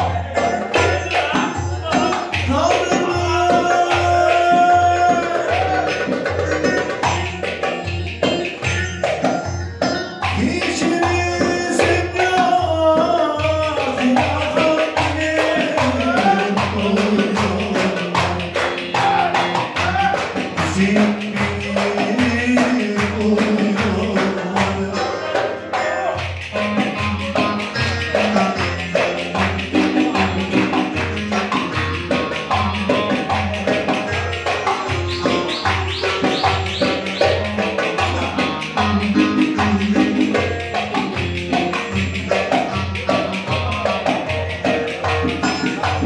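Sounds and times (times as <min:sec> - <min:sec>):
saz melody: 0:00.0 - 0:46.0
steady drum beat: 0:00.0 - 0:46.0.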